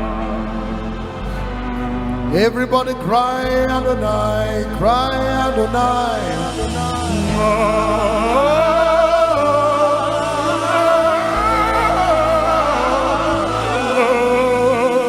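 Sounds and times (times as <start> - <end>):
bass and keyboard chords: 0.0 - 15.0
congregation singing worship song: 0.0 - 15.0.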